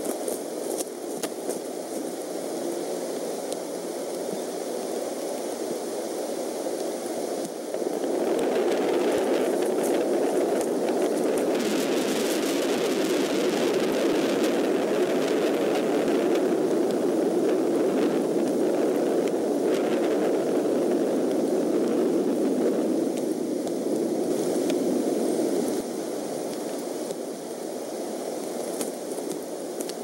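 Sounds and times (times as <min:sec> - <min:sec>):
scattered crackles: 0:00.0 - 0:30.0
steady rain falling: 0:00.0 - 0:30.0.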